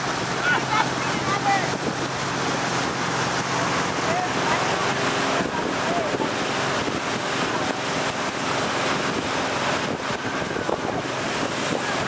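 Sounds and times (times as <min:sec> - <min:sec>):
boat engine: 0:00.0 - 0:12.0
rushing wake and spray: 0:00.0 - 0:12.0
wind buffeting microphone: 0:01.2 - 0:12.0.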